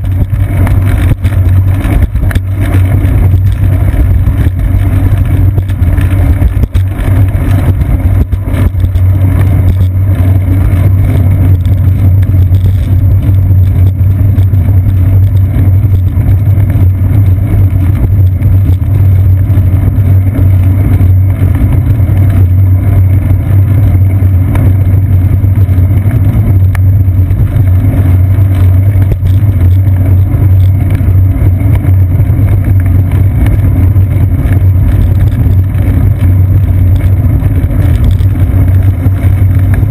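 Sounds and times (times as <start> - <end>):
low rumble of wind: 0.0 - 39.9.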